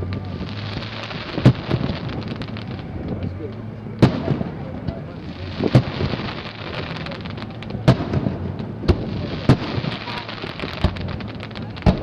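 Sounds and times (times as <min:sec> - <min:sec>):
firework crackling: 0:00.0 - 0:12.0
firework shells booming: 0:00.0 - 0:12.0.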